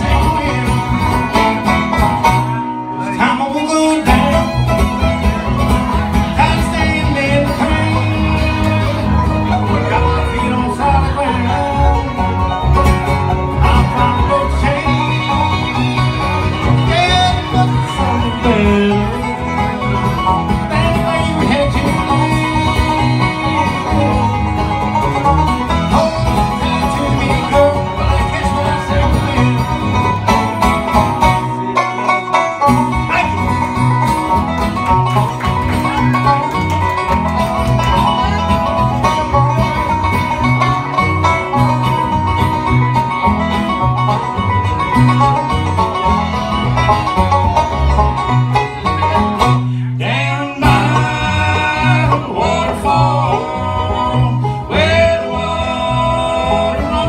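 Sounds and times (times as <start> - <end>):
acoustic guitars strumming: 0.0 - 57.0
fiddle playing: 0.0 - 57.0.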